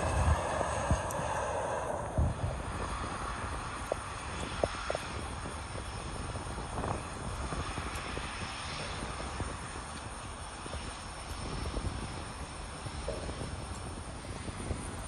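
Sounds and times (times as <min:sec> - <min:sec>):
turboprop engines running: 0:00.0 - 0:15.0.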